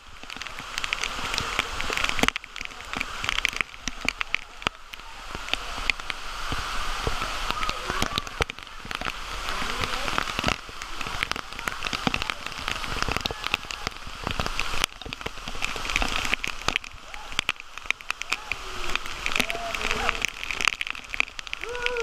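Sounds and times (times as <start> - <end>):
rain hiss: 0.0 - 22.0.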